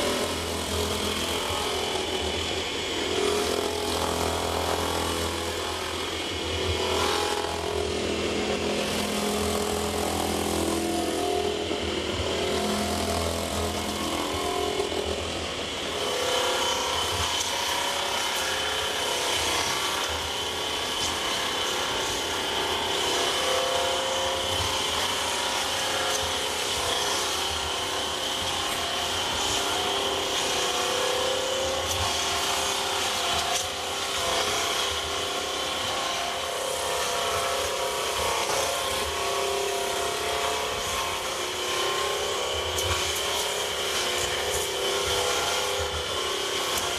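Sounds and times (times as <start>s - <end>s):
machine hum: 0.0s - 46.9s
steady high whine: 0.0s - 46.9s.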